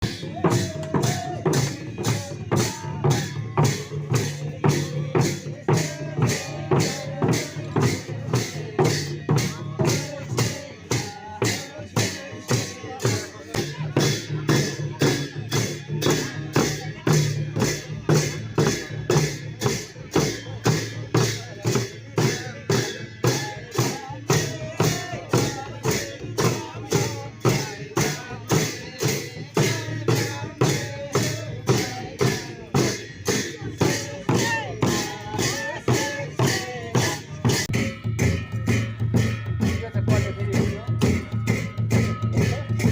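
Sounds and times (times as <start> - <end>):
drum and cymbal strokes: 0.0 - 42.9.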